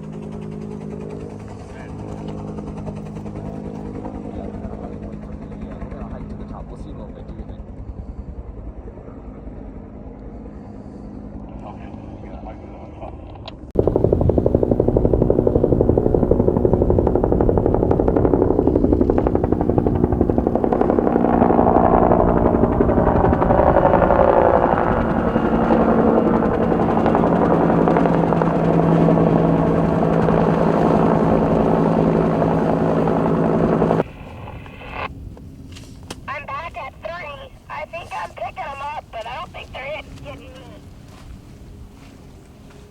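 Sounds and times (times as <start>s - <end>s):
helicopter turbine and rotor: 0.0s - 42.9s.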